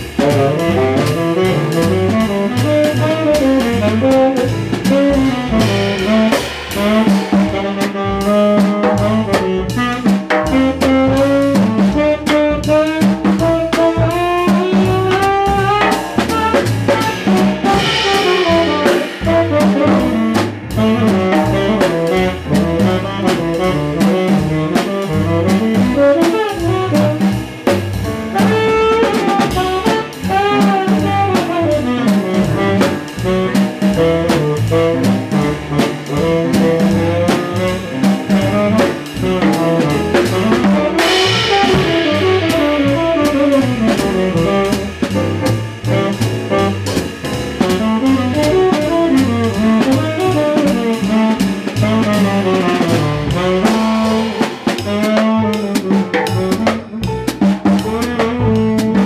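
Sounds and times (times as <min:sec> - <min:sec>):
drum kit with ride cymbal: 0:00.0 - 0:59.0
piano: 0:00.0 - 0:59.0
walking double bass: 0:00.0 - 0:59.0
horn solo: 0:00.2 - 0:46.8, 0:47.6 - 0:59.0.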